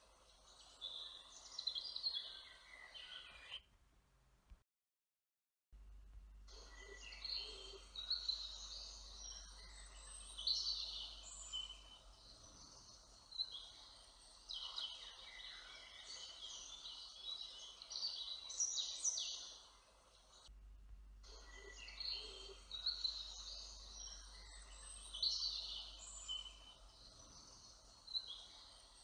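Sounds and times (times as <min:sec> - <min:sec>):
songbirds singing: 0:00.0 - 0:03.7, 0:06.5 - 0:20.5, 0:21.2 - 0:29.0.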